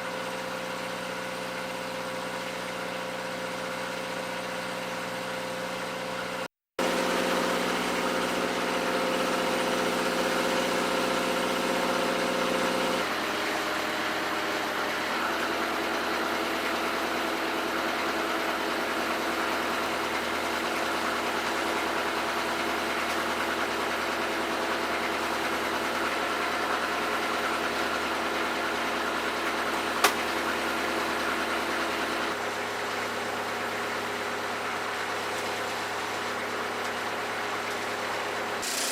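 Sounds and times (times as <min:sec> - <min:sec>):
boat engine running: 0:06.8 - 0:38.6.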